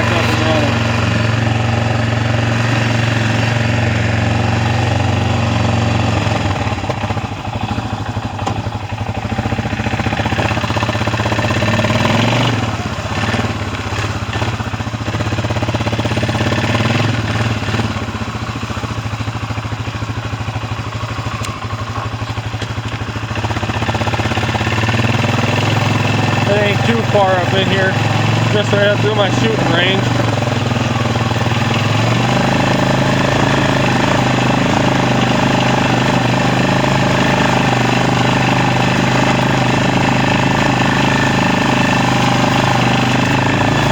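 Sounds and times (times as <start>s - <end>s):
small vehicle engine running: 0.0s - 43.9s.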